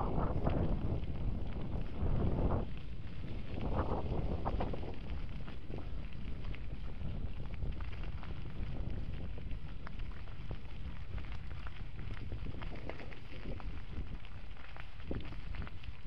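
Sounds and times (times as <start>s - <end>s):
bicycle tyres rolling on gravel: 0.0s - 16.0s
loose stones crunching: 0.0s - 16.0s
wind rumble on microphone: 0.0s - 16.0s.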